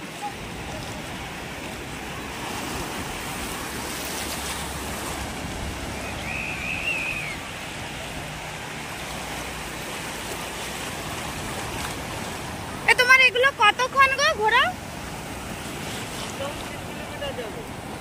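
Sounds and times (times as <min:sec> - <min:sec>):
waves breaking on sand: 0:00.0 - 0:18.0.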